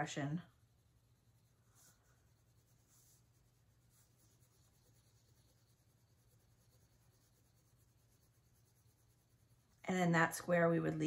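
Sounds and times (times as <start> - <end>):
low steady hum: 0.0 - 11.0
pencil shading on paper: 1.0 - 10.1.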